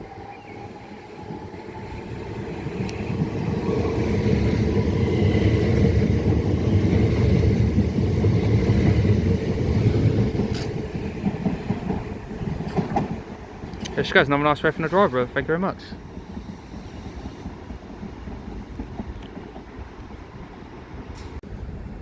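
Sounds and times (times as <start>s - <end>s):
electric train running past: 0.0s - 22.0s.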